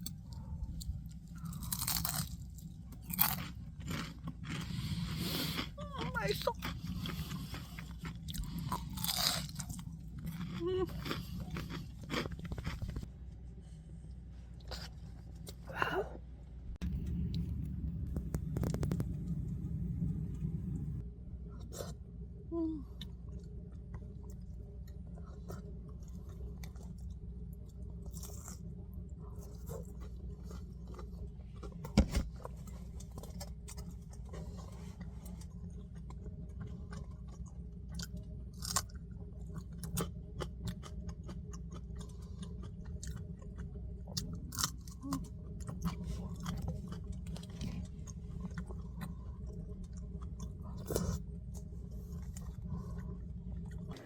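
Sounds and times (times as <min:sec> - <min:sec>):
chewing and crunching: 0:00.0 - 0:15.7, 0:16.7 - 0:19.7, 0:22.8 - 0:54.0
low hum: 0:00.0 - 0:54.0.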